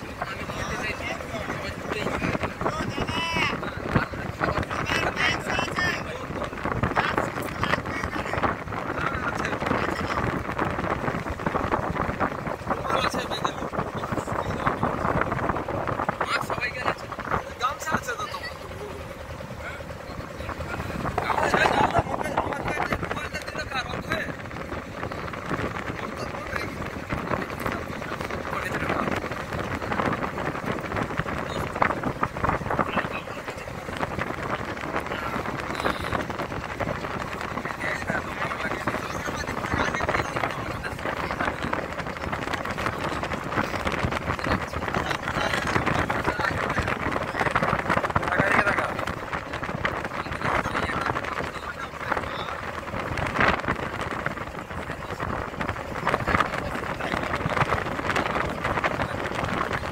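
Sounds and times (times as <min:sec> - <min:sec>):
boat engine noise: 0:00.0 - 0:59.9
wind buffeting microphone: 0:00.0 - 0:59.9.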